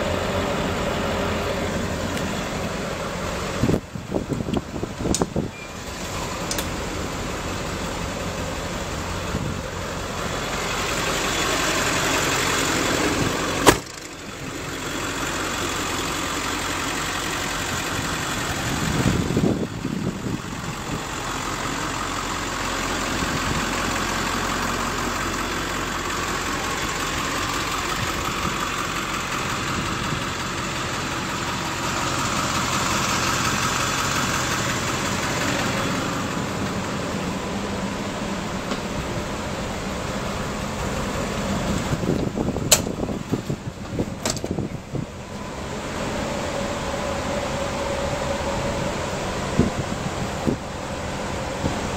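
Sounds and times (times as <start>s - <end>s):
bus engine idling: 0.0s - 51.9s.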